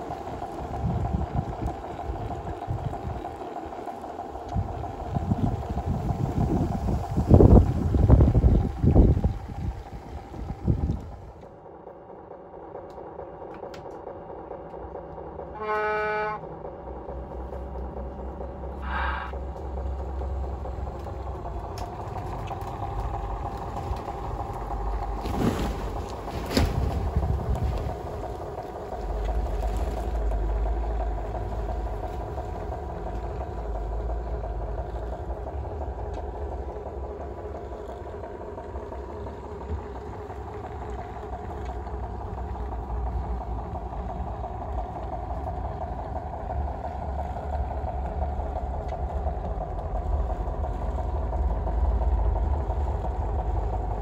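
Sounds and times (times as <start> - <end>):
model locomotive drone: 0.0 - 54.0.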